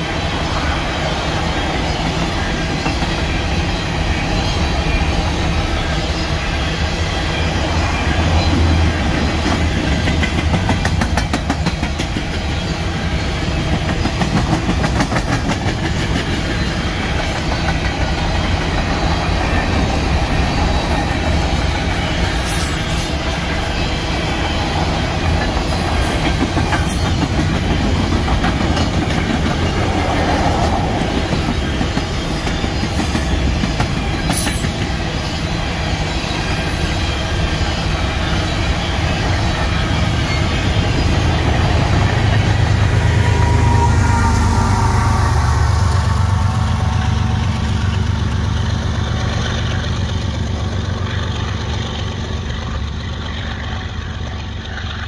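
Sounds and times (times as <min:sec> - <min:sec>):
freight train wheels clattering: 0:00.0 - 0:55.0.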